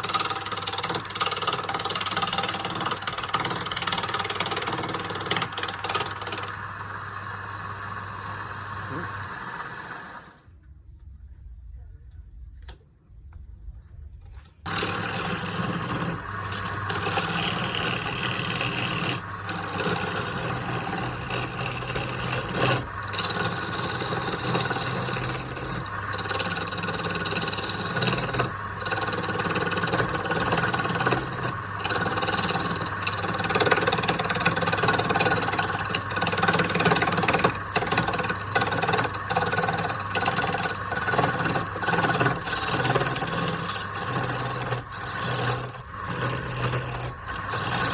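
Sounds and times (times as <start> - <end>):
tool rasping on wood: 0.0 - 6.6, 14.7 - 47.9
power tool motor hum: 0.0 - 10.3, 14.7 - 47.9.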